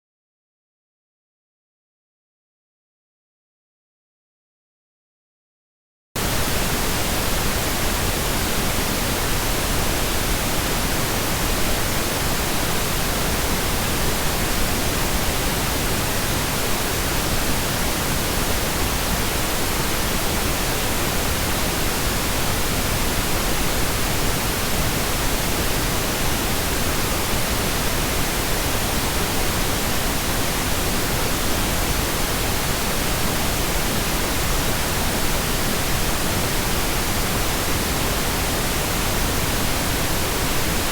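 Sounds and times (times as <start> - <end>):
pink noise hiss: 6.2 - 40.9.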